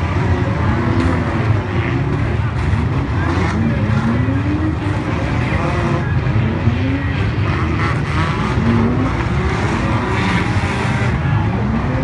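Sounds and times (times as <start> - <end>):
racing car engines revving: 0.0 - 12.0.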